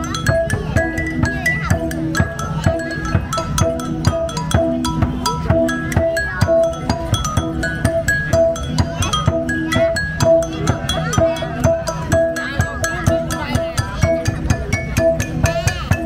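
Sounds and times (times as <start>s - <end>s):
steady percussive beat: 0.0s - 16.0s
stone lithophone melody: 0.0s - 16.0s.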